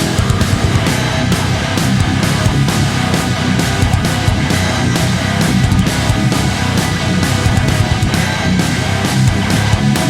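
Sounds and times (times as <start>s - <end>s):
hard rock music: 0.0s - 10.0s.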